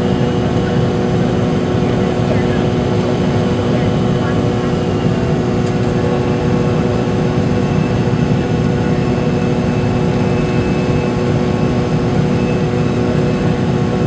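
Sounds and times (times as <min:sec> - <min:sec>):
held engine tones: 0:00.0 - 0:14.0
jet engines in airliner cabin: 0:00.0 - 0:14.0.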